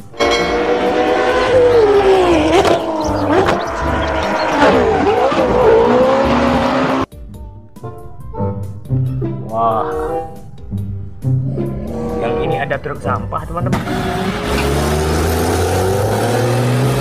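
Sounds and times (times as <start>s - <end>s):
racing car engines revving: 0.0s - 7.1s, 9.9s - 17.0s.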